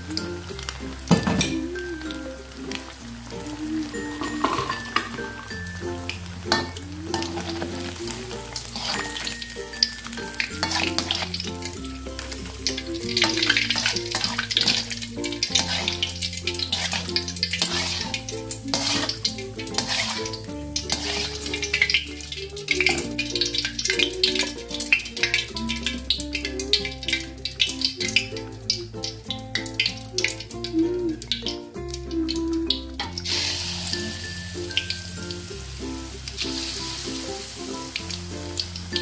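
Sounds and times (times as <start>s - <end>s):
background music with bass: 0.0s - 39.0s
shrimp deep-frying in oil: 0.0s - 39.0s.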